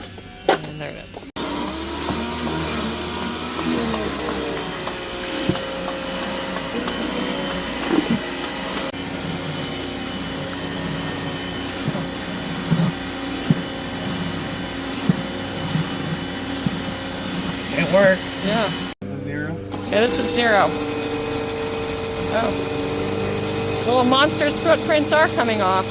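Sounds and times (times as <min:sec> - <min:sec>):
pressure washer motor whine: 0:01.4 - 0:25.9.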